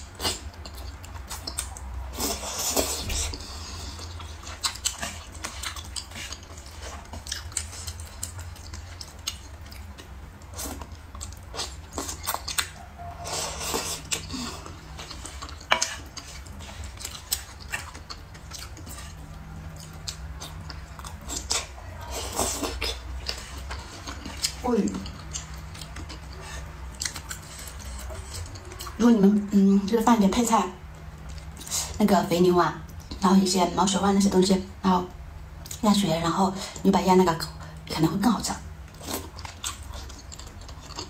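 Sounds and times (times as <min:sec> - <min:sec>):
chewing and wet mouth noises: 0:00.0 - 0:29.6, 0:30.4 - 0:32.1, 0:35.6 - 0:36.0, 0:38.5 - 0:41.0.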